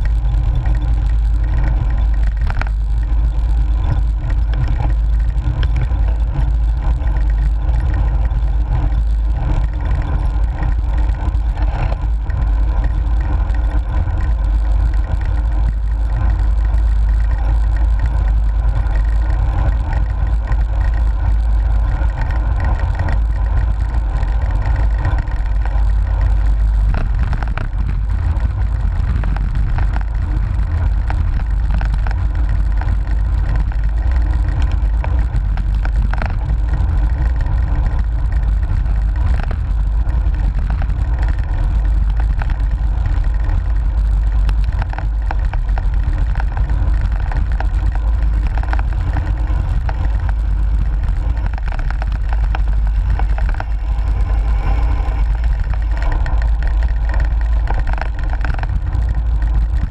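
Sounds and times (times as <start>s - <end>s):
bike tyre and road rumble: 0.0s - 59.9s
wind buffeting microphone: 0.0s - 59.9s.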